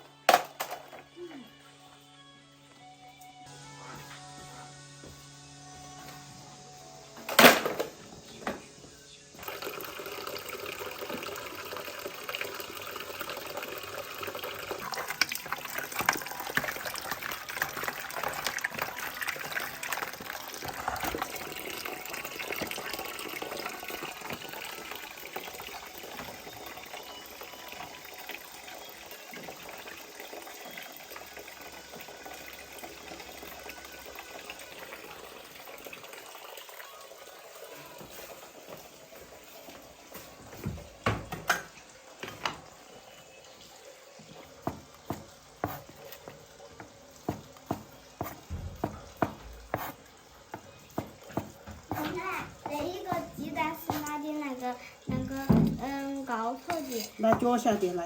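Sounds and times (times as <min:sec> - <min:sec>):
tap water splashing into sink: 0:09.4 - 0:37.0, 0:37.7 - 0:42.8, 0:43.5 - 0:58.0.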